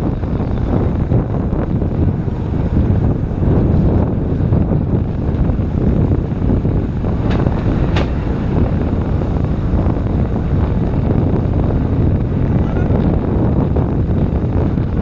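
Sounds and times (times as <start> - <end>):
road and traffic noise: 0.0 - 15.0
wind rumble on microphone: 0.0 - 15.0.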